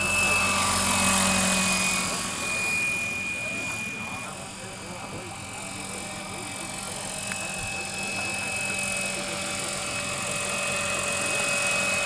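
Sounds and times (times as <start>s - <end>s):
model helicopter whine: 0.0s - 12.0s.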